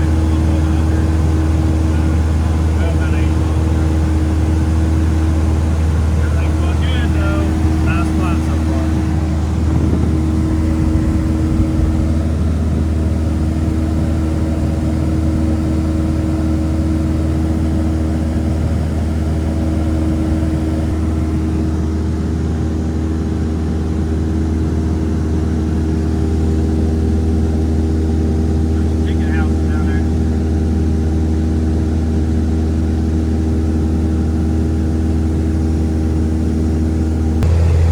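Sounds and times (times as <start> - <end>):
vehicle engine droning: 0.0 - 37.9.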